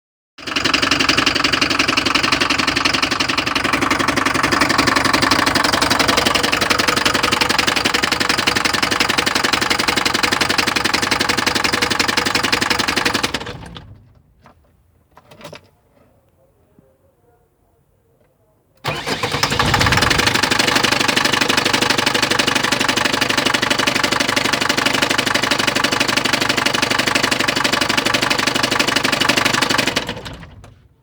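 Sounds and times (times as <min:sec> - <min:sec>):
diesel engine idling with knocking: 0:00.4 - 0:14.2, 0:18.9 - 0:30.9.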